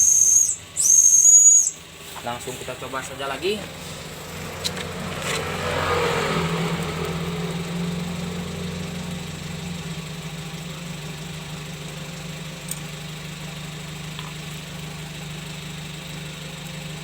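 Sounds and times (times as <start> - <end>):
engine idling: 0.0 - 17.0
engine revving: 0.0 - 17.0.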